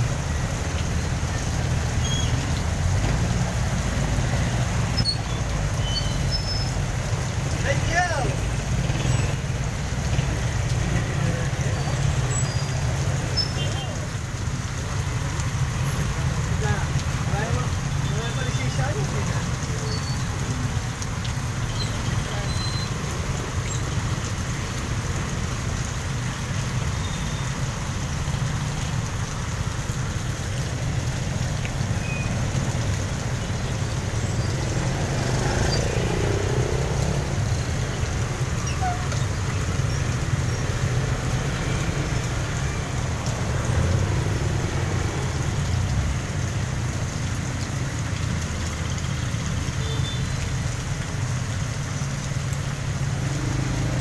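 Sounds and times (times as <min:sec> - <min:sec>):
engines rumbling low: 0:00.0 - 0:54.0
heavy rain on wet street: 0:00.0 - 0:54.0
vehicles driving through water: 0:00.0 - 0:54.0.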